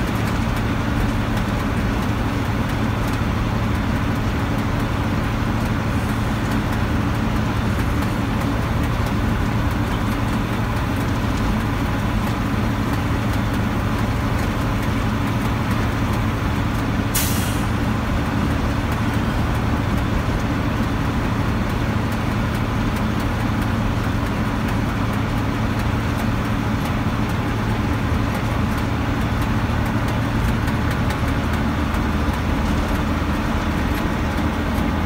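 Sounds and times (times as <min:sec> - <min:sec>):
bus engine running: 0:00.0 - 0:35.0
tyre and road noise: 0:00.0 - 0:35.0.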